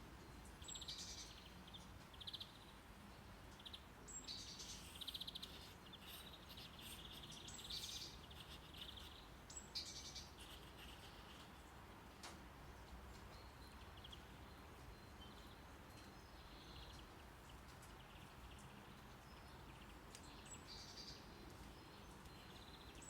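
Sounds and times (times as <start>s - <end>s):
songbird chirping and trilling: 0.2s - 23.0s.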